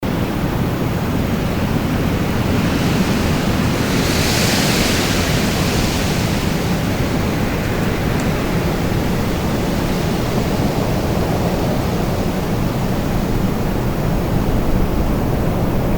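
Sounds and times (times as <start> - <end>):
wind blowing: 0.1 - 15.9.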